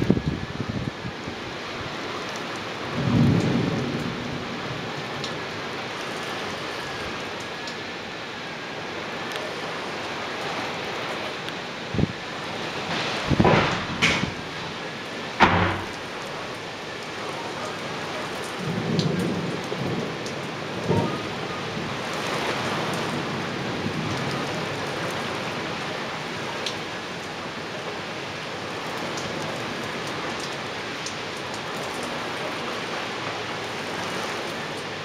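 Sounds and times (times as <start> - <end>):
heavy rain on roof tiles: 0.0 - 35.0.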